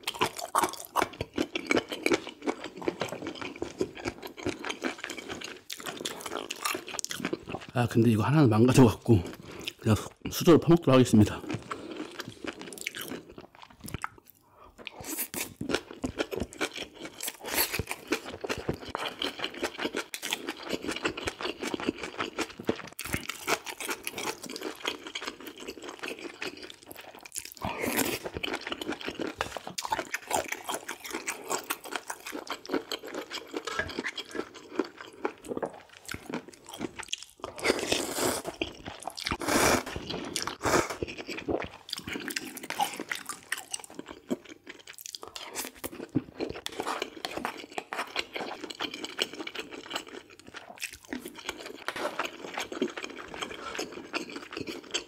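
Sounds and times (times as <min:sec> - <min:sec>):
person chewing and crunching: 0:00.0 - 0:08.1, 0:08.7 - 0:55.0.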